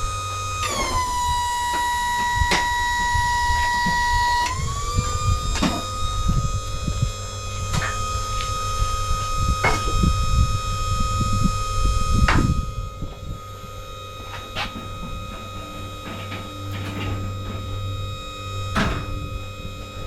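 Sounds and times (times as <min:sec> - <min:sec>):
power tool motor whining: 0:00.0 - 0:20.0.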